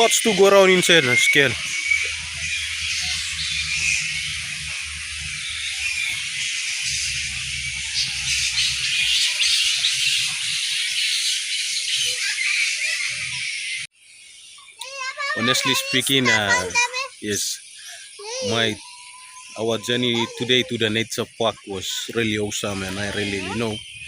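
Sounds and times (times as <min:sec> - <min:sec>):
insects and birds chirping: 0:00.0 - 0:24.0.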